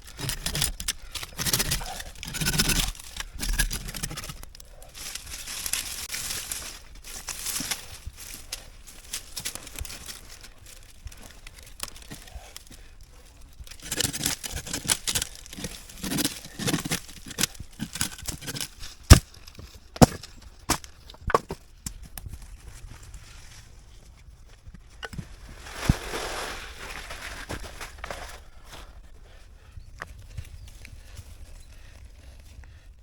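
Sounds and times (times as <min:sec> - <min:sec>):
crinkling and rustling: 0:00.0 - 0:29.2.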